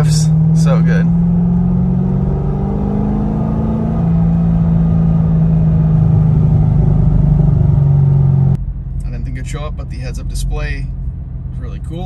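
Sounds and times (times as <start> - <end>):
car engine under throttle: 0.0 - 12.0.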